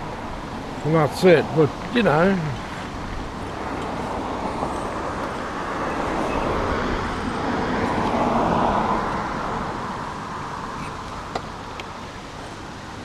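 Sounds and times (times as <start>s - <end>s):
car passing: 0.0s - 11.9s.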